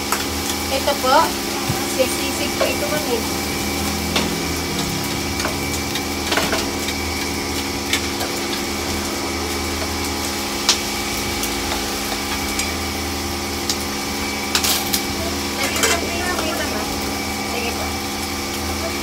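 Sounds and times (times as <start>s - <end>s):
machine hum: 0.0s - 19.0s
meat deep-frying in oil: 0.0s - 19.0s.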